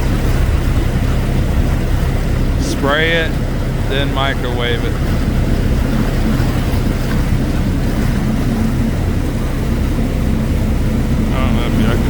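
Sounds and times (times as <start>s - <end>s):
engine running steadily: 0.0s - 12.0s
wind noise: 0.0s - 12.0s.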